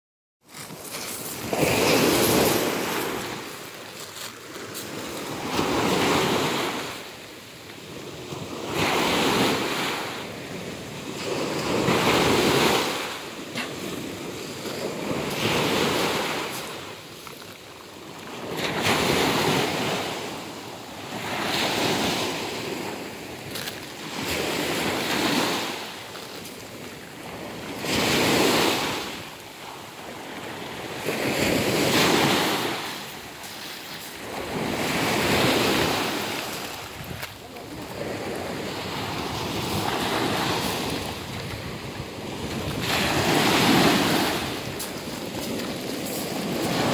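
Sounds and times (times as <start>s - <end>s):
sea surf breaking on beach: 0.7s - 46.9s.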